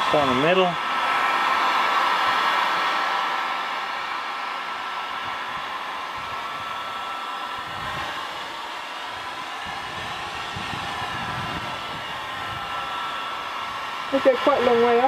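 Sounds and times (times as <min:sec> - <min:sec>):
heat gun fan whining: 0:00.0 - 0:15.0.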